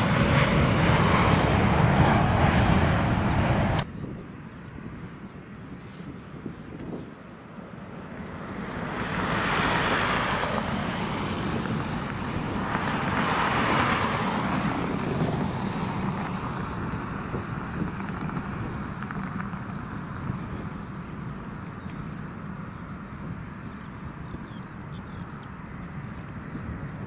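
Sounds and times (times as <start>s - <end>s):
jet airliner engine roar: 0.0s - 27.0s.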